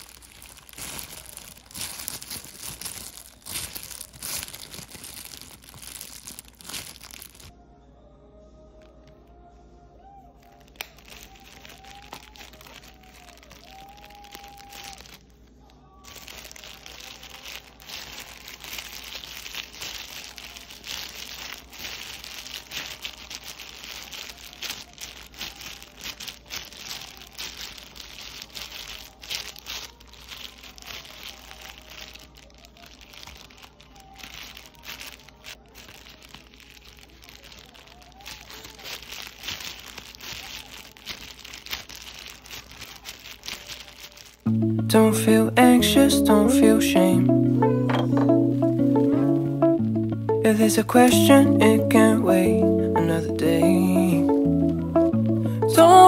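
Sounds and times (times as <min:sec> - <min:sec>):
plastic gloves crinkling: 0:00.0 - 0:07.5, 0:10.0 - 0:56.0.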